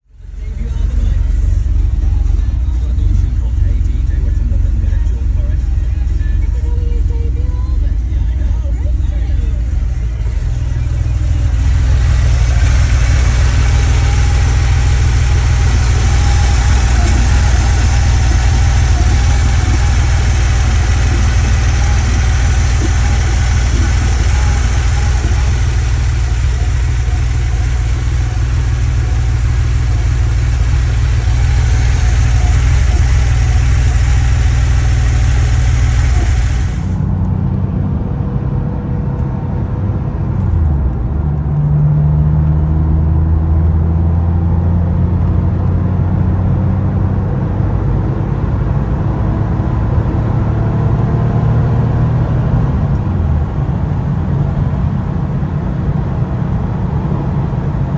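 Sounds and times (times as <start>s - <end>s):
car engine idling and running: 0.0s - 57.9s.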